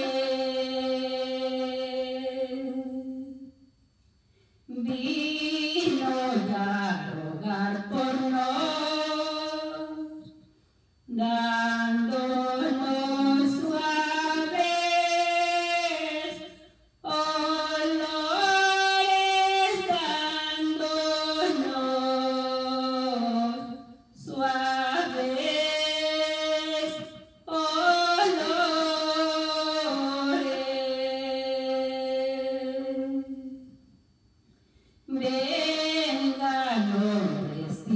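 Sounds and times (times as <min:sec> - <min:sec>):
woman singing unaccompanied: 0:00.0 - 0:03.5, 0:04.7 - 0:10.4, 0:11.1 - 0:33.7, 0:35.1 - 0:37.9.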